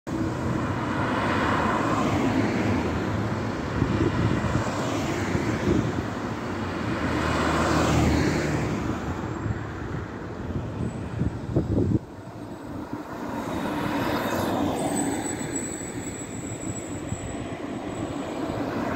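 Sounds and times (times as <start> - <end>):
cars driving past: 0.1 - 18.9.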